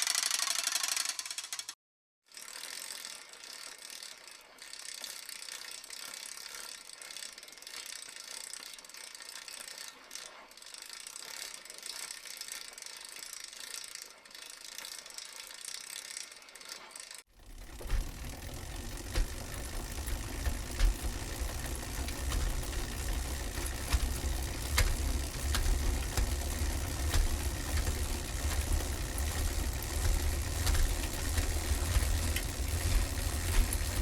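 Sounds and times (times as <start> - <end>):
bicycle freewheel ratchet clicking: 0.0 - 34.0.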